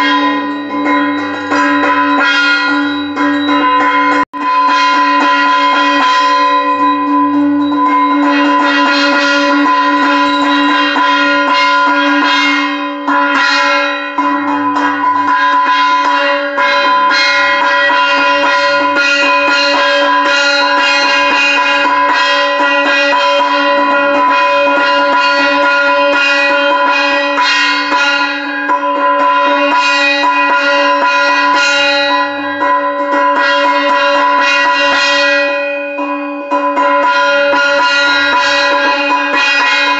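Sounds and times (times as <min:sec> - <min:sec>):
bell ringing rapidly: 0:00.0 - 0:39.9.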